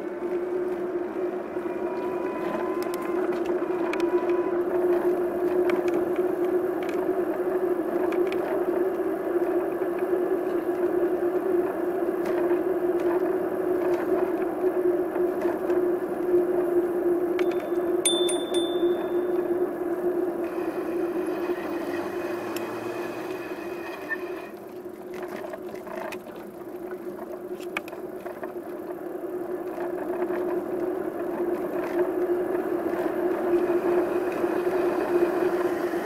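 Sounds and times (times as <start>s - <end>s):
bicycle riding hum: 0.0s - 36.0s.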